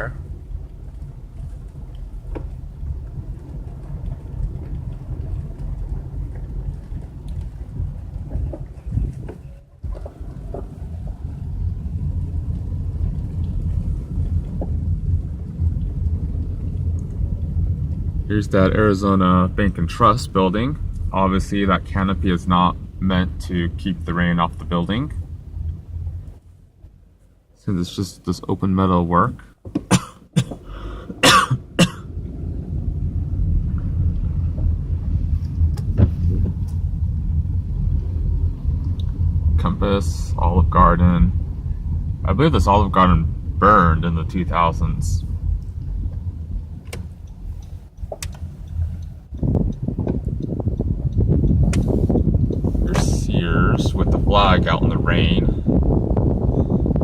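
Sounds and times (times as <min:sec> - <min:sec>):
car driving on wet pavement: 0:00.0 - 0:57.0.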